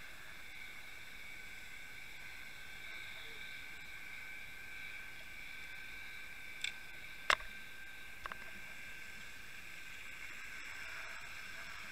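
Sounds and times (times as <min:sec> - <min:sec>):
faint underwater hiss: 0:00.0 - 0:11.9.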